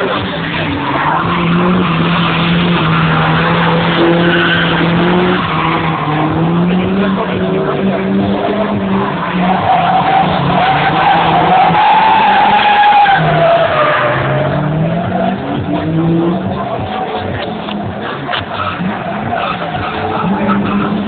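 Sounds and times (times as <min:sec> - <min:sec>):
car engine at high revs: 0:00.0 - 0:21.0
tyres skidding and squealing: 0:00.0 - 0:21.0.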